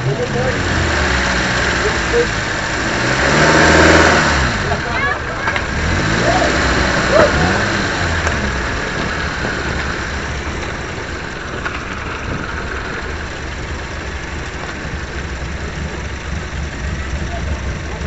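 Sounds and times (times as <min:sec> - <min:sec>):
race car engine idling: 0:00.0 - 0:18.0.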